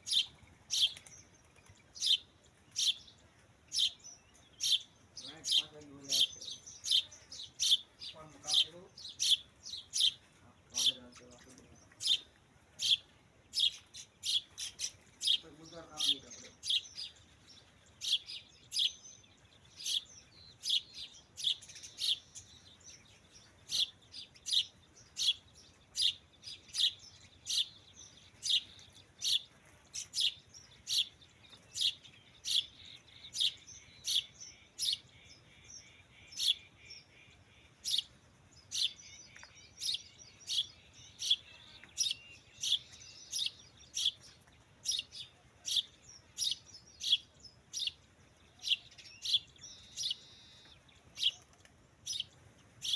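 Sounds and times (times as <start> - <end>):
faint bird twittering: 0.0 - 52.9
small bird chirping: 0.0 - 52.9.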